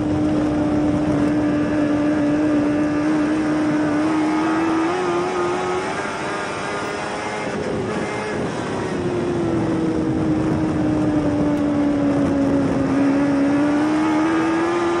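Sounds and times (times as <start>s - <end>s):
race car engine running: 0.0s - 15.0s
wind and track noise: 0.0s - 15.0s.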